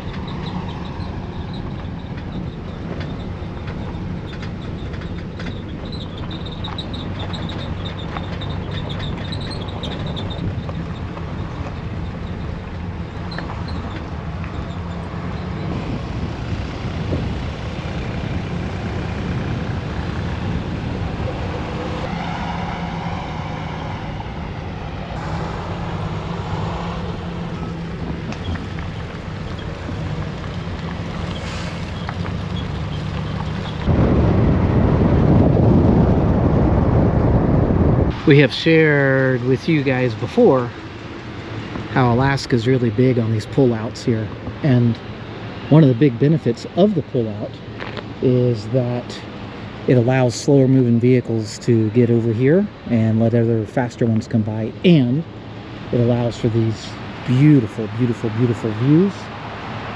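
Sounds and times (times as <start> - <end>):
road and wind noise: 0.0 - 59.9
truck engine droning: 0.0 - 59.9.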